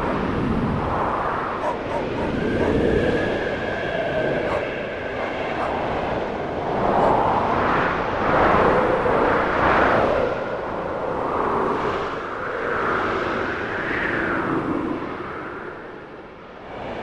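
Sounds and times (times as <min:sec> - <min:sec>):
wind howling in gusts: 0:00.0 - 0:17.0.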